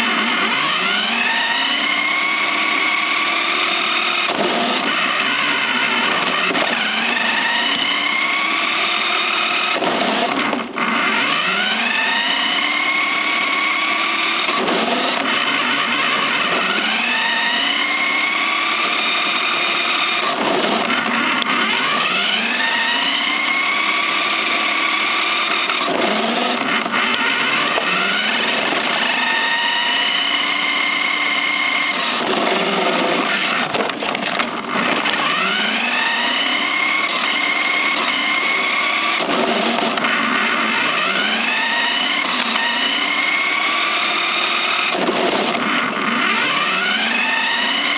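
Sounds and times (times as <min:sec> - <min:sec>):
toy car motor whining: 0:00.0 - 0:47.9.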